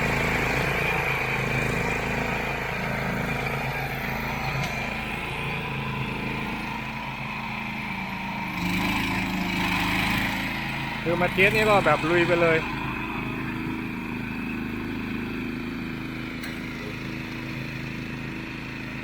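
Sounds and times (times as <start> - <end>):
ride-on lawn mower engine running: 0.0 - 19.0.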